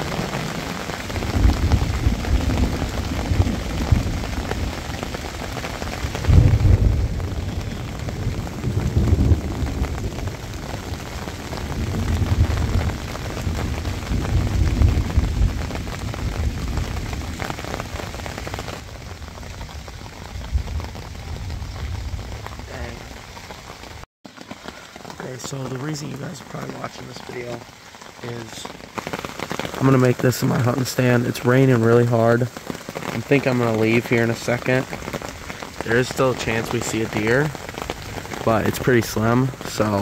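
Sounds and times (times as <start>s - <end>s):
rain pattering on fabric: 0.0s - 40.0s.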